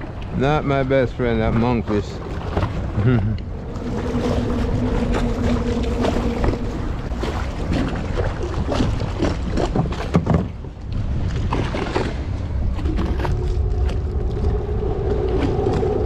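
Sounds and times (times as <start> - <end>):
wind rumbling on microphone: 0.0 - 16.0
low hum: 1.5 - 10.0, 10.6 - 16.0.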